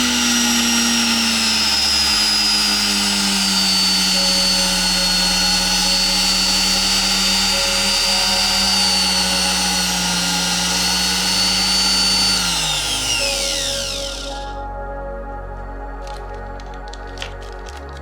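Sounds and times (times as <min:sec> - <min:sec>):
router motor whining: 0:00.0 - 0:14.7.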